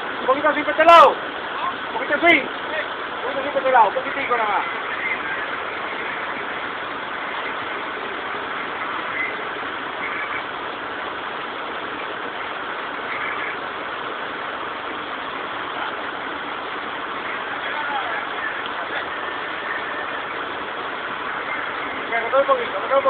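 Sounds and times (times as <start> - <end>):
drill rig engine running: 0.0 - 23.0.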